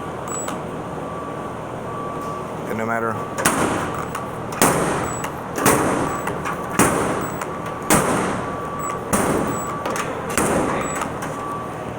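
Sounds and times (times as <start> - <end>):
faint motor whine: 0.0 - 11.9.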